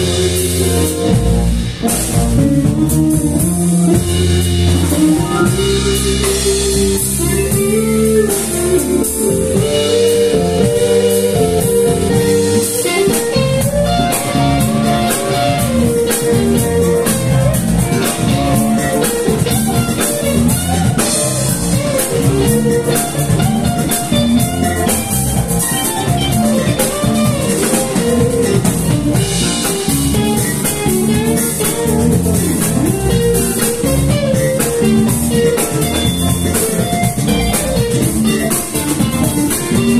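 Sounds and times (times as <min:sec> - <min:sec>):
bass guitar: 0:00.0 - 0:39.9
drum kit: 0:00.0 - 0:39.9
electric guitars: 0:00.0 - 0:39.9
keyboard: 0:00.0 - 0:39.9.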